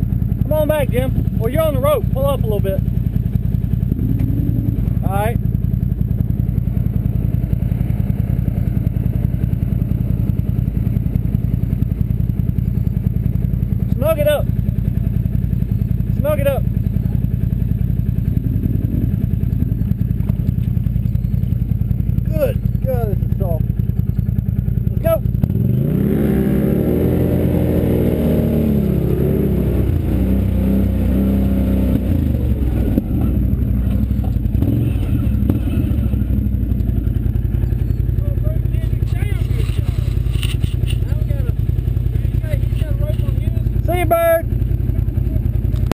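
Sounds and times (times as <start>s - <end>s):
atv engine idling: 0.0s - 45.9s.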